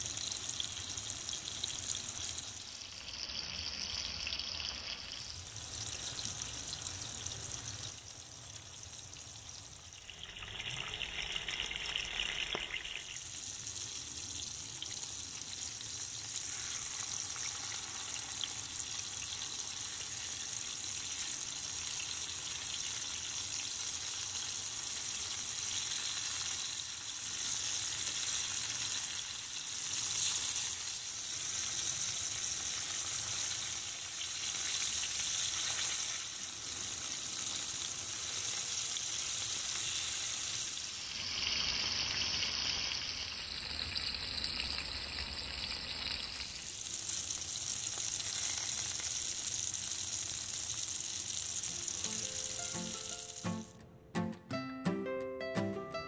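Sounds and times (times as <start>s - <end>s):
fish sizzling in oil: 0.0s - 53.7s.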